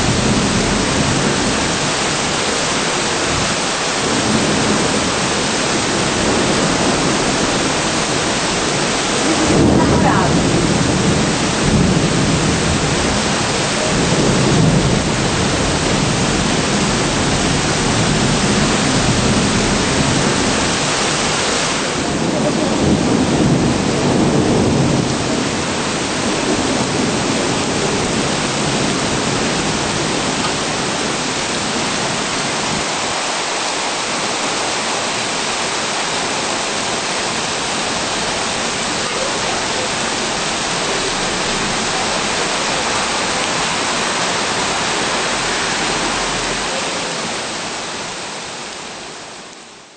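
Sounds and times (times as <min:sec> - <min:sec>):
heavy rain hissing: 0:00.0 - 0:49.9.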